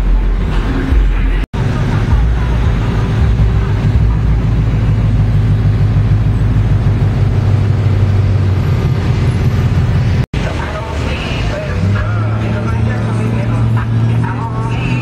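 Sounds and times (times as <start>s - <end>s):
pickup truck engine rumble: 0.0s - 15.0s.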